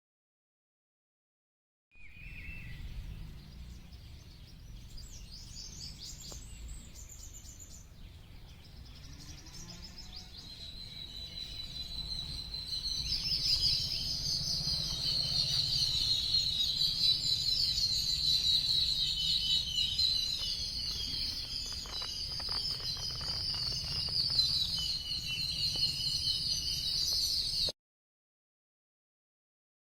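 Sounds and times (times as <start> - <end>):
birds chirping: 2.1 - 27.7.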